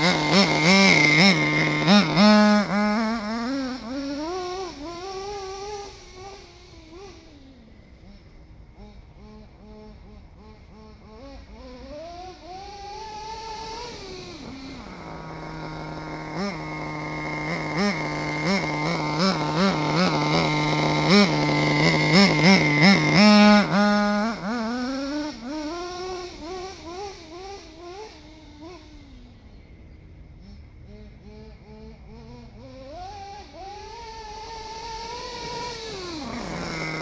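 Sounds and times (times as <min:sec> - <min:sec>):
small engine revving: 0:00.0 - 0:37.0.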